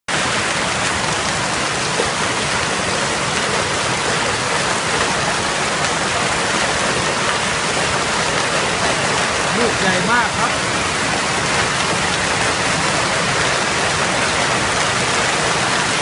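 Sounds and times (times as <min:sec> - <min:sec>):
hail and heavy rain pelting: 0:00.1 - 0:16.0.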